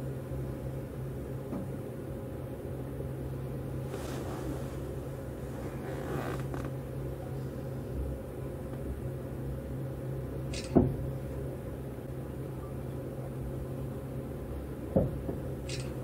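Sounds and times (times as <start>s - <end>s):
train car low hum: 0.0s - 16.0s.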